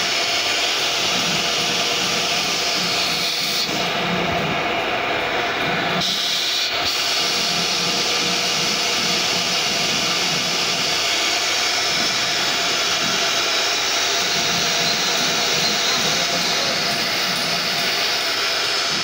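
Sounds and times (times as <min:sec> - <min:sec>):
router spindle whining: 0:00.0 - 0:19.0.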